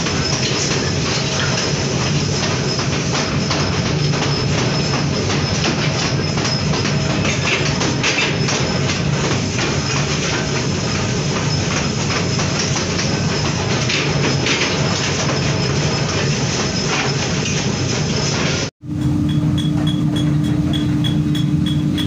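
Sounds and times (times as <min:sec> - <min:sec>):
machine hum: 0:00.0 - 0:22.0
metal clatter and knocks: 0:00.0 - 0:22.0.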